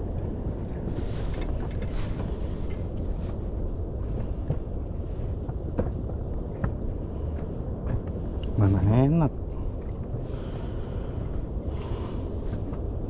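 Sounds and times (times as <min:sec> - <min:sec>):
low rumble at sea: 0:00.0 - 0:13.0.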